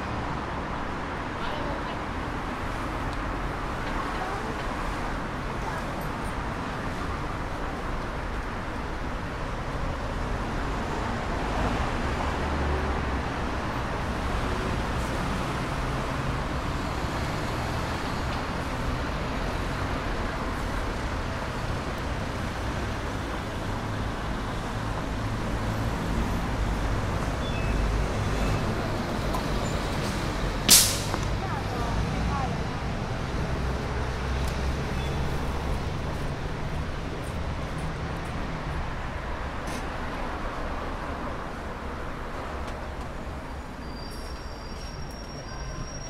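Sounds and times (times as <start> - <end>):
heavy vehicles rumbling: 0.0 - 46.0
road traffic noise: 0.0 - 46.0.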